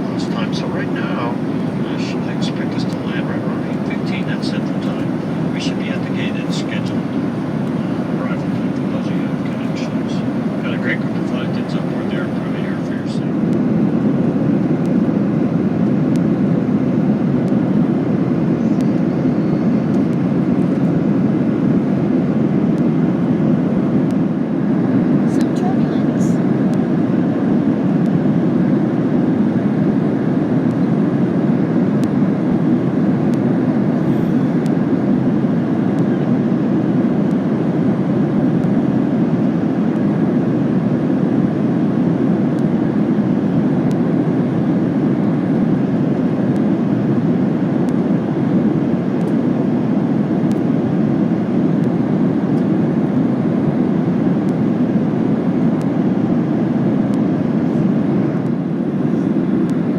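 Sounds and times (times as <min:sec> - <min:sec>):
aircraft cabin roar: 0:00.0 - 0:59.9.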